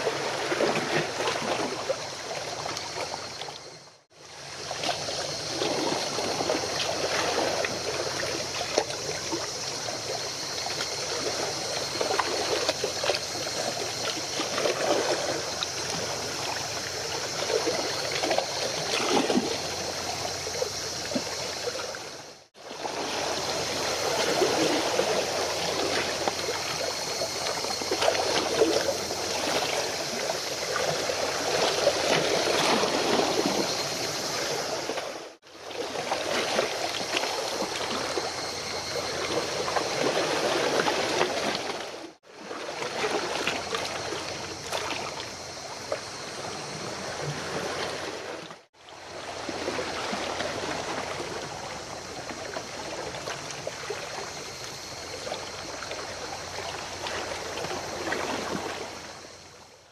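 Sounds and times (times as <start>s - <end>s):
water rushing and splashing: 0.0s - 59.8s.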